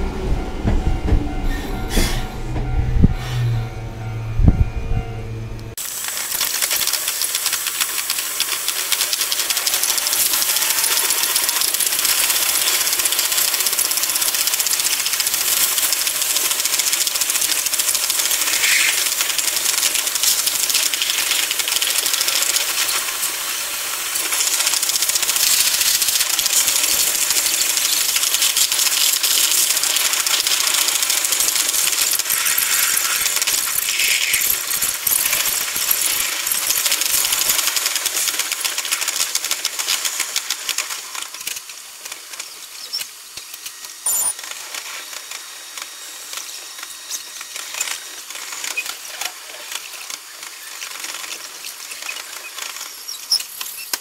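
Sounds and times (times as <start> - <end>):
train rushing hiss and rattling: 0.0 - 44.0.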